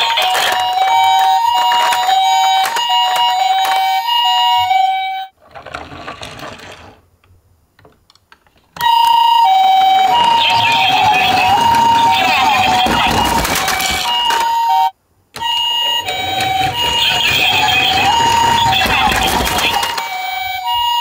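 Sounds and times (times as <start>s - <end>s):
toy ambulance two-tone siren: 0.0s - 5.3s, 8.8s - 21.0s.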